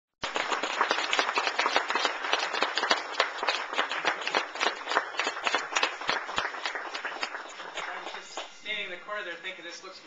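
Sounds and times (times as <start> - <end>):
audience applauding: 0.2 - 9.0.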